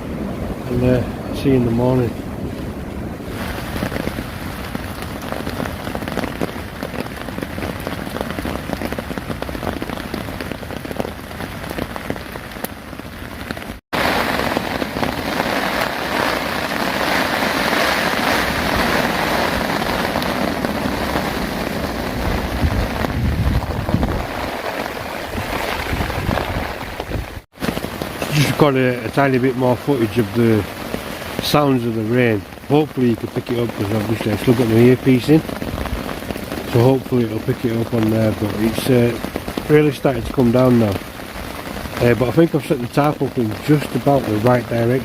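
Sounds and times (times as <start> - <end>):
rain drumming on a tarp: 0.0 - 45.0
wind: 0.0 - 45.0.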